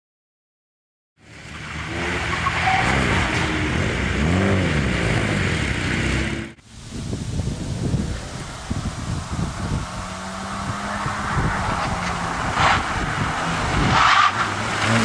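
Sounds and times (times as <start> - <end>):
car driving toward microphone: 1.2 - 15.0
car engine revving: 1.3 - 6.6, 7.4 - 15.0.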